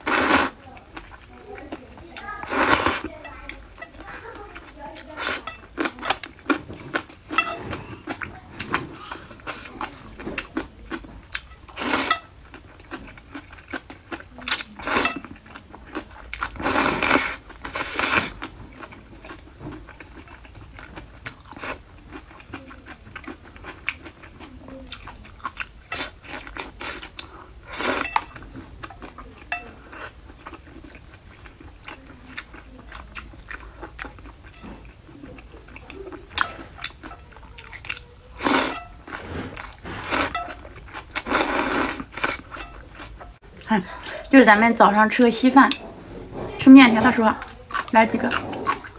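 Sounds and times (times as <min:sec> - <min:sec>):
chewing crunchy vegetables: 0:00.0 - 0:48.9.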